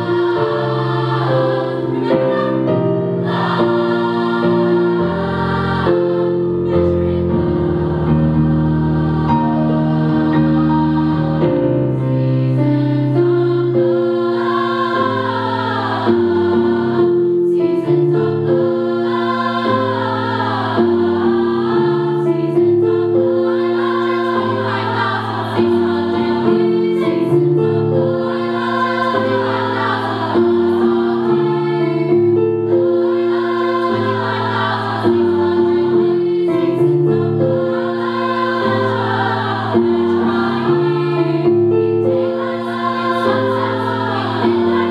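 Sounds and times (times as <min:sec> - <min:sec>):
women's choir singing: 0:00.0 - 0:44.9.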